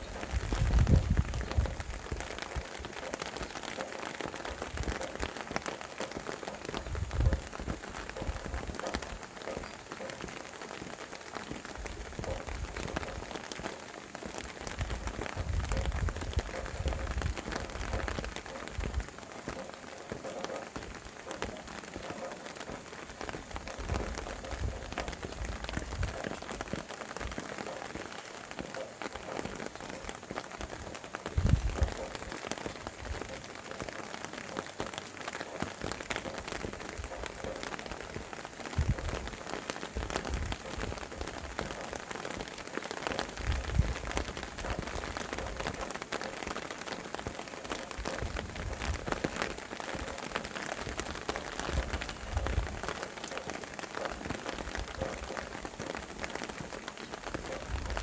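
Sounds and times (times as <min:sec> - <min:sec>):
wind gusts on microphone: 0:00.0 - 0:28.0, 0:29.1 - 0:33.8, 0:34.4 - 0:46.6, 0:47.3 - 0:58.0
steady rain falling: 0:00.0 - 0:58.0.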